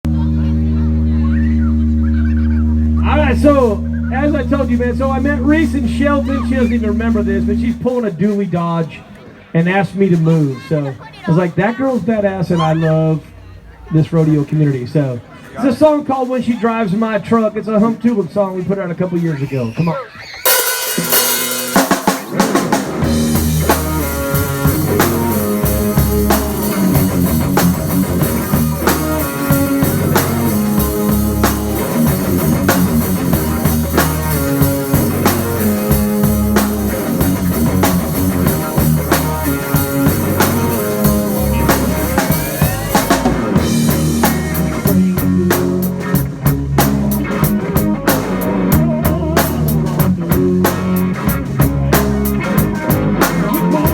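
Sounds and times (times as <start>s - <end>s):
drum kit beat: 0.0s - 8.9s, 9.6s - 13.0s, 15.6s - 53.9s
live band playing: 0.0s - 53.9s.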